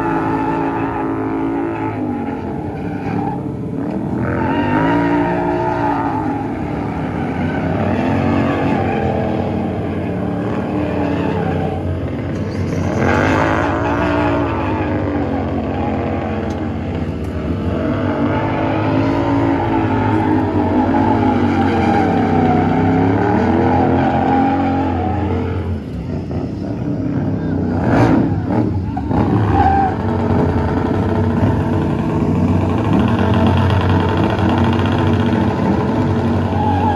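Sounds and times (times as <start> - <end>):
motorcycle engine revving: 0.0 - 2.7, 3.4 - 36.9
tire hissing and squealing: 0.0 - 36.9.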